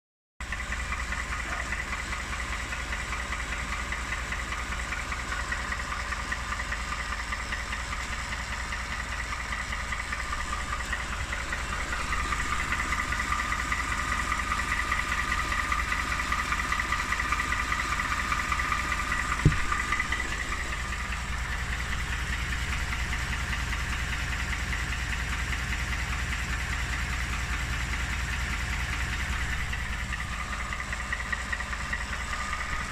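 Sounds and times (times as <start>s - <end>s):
engine idling with rapid knock: 0.4s - 32.9s.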